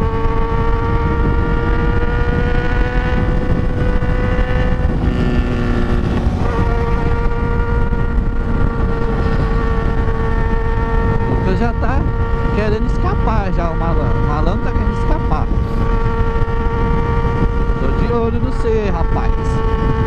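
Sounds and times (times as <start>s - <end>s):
motorcycle engine at high revs: 0.0s - 20.0s
wind rumble on microphone: 0.0s - 20.0s.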